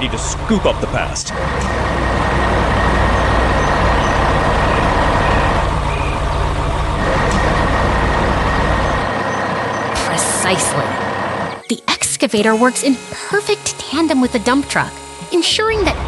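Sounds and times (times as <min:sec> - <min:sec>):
diesel construction machinery running: 0:00.0 - 0:16.0.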